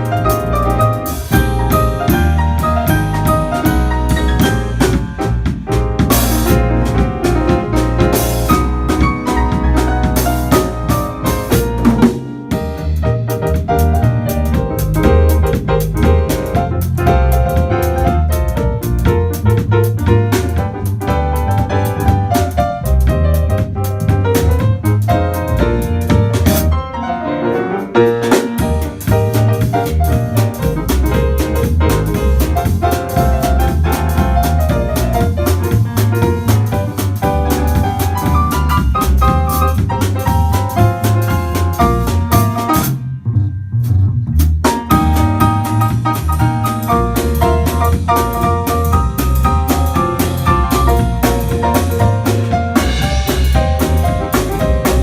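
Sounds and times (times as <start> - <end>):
bass line: 0.0 - 55.0
drum kit: 0.0 - 55.0
jazz trio playing: 0.0 - 55.0
piano: 0.0 - 55.0.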